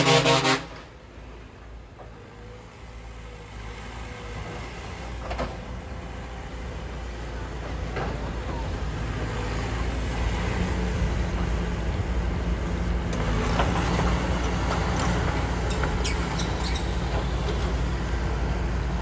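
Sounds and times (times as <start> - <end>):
heavy machinery engine rumble: 0.0 - 19.0.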